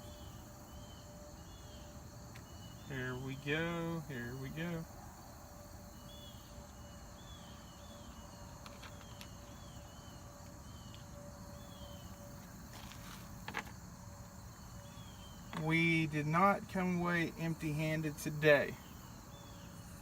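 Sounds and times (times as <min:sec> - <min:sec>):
high insect hiss: 0:00.0 - 0:20.0.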